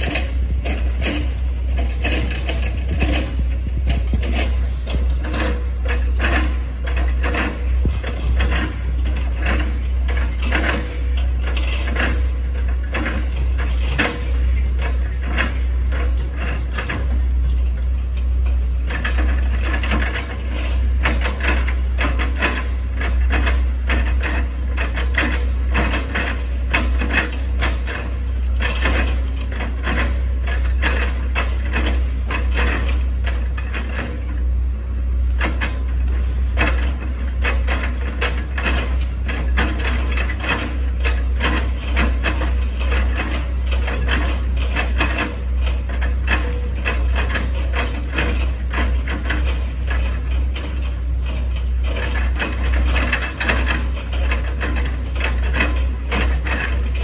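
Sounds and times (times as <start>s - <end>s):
excavator diesel engine drone: 0.0s - 57.0s.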